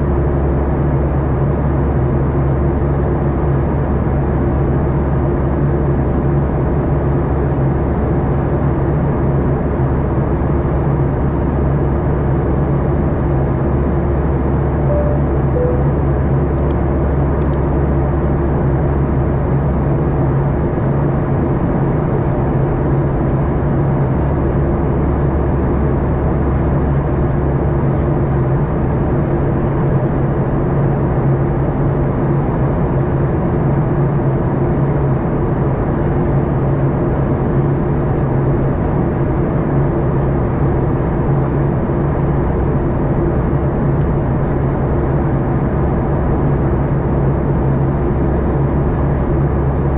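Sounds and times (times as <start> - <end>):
airplane cabin drone: 0.0 - 49.9.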